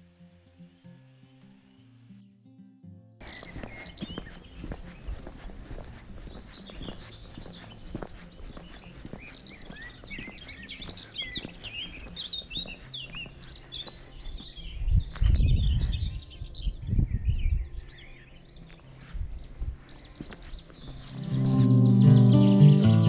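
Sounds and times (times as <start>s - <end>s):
birds singing: 3.2s - 23.0s.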